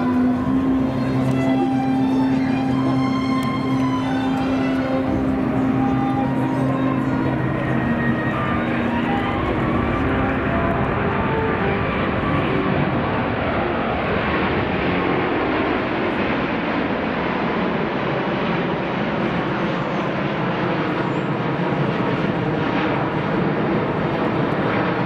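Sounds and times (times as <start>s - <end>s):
jet engine noise: 0.0s - 25.0s.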